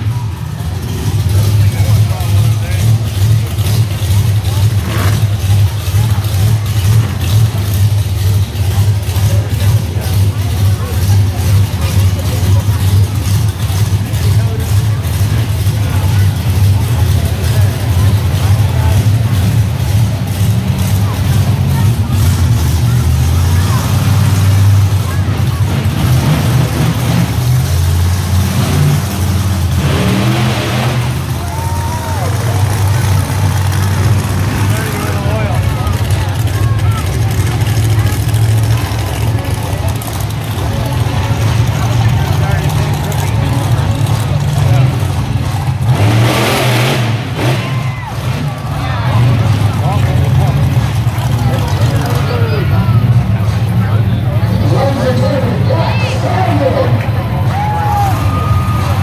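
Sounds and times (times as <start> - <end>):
crowd noise in arena: 0.0 - 59.0
monster truck engine droning: 0.0 - 59.0.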